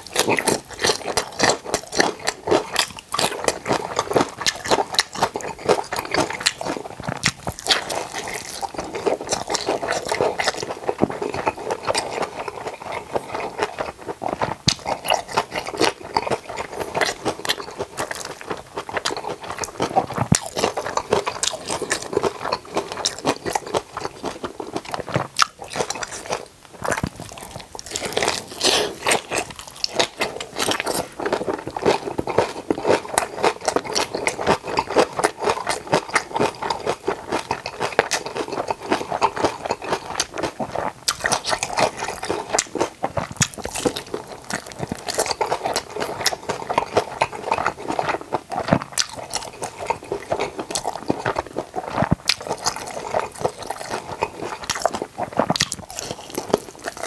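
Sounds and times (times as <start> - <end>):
crunchy bites and chewing: 0.0 - 57.0.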